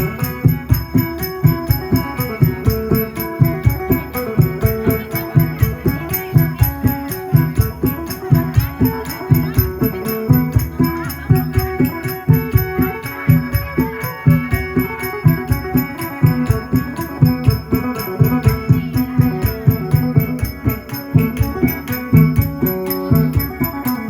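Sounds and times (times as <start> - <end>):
jingling percussion: 0.0 - 24.0
plucked lute melody: 0.0 - 24.0.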